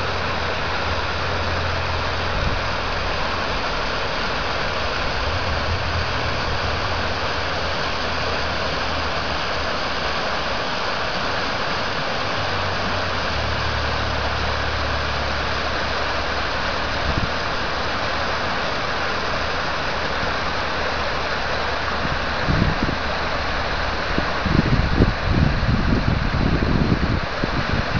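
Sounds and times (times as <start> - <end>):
excavator engine idling: 0.0 - 26.9
water rushing through rubble: 0.0 - 27.9.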